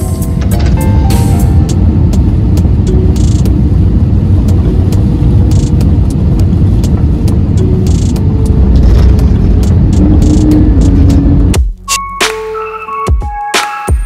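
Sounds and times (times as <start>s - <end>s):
jet engines rumbling: 0.0s - 11.6s
rushing air: 0.0s - 11.6s.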